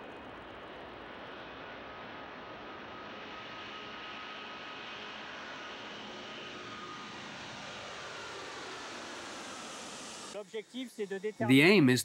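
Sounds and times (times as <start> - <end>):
jet engines at takeoff: 0.0 - 11.4.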